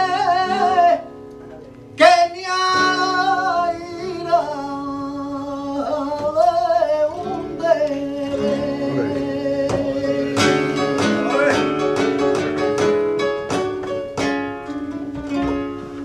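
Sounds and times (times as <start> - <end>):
flamenco guitar playing: 0.0 - 16.0.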